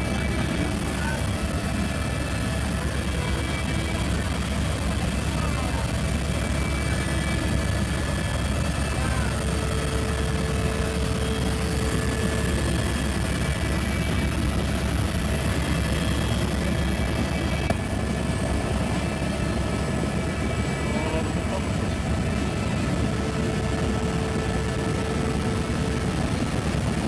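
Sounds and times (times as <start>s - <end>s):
helicopter engine and rotor drone: 0.0s - 27.0s.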